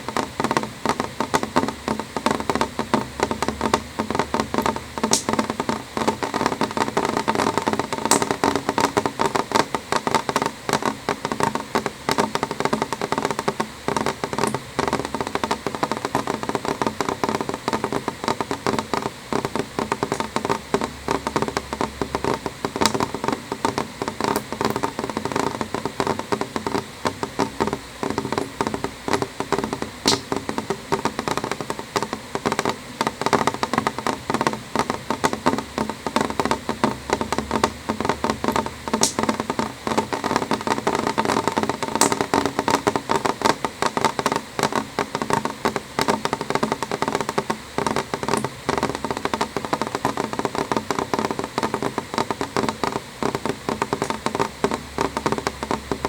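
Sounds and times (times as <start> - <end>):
rain tapping on window glass: 0.0 - 56.0.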